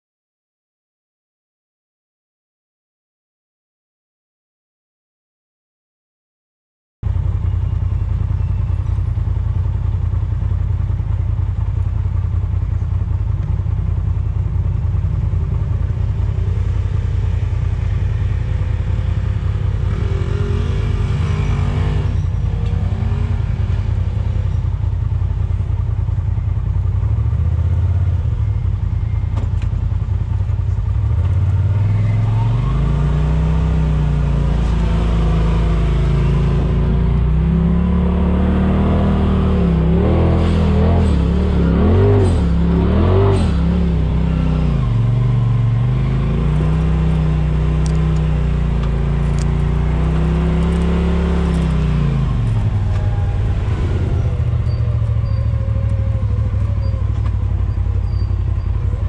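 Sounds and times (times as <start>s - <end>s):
vehicle engine running and revving: 7.0s - 59.0s.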